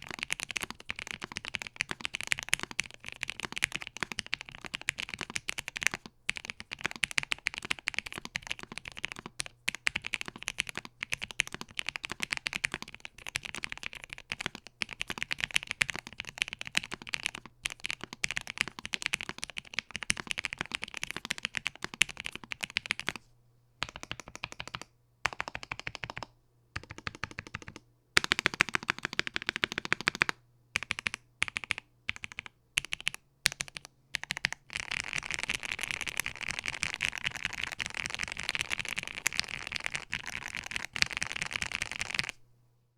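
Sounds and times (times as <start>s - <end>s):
mechanical keyboard typing: 0.0s - 23.2s, 23.8s - 42.4s.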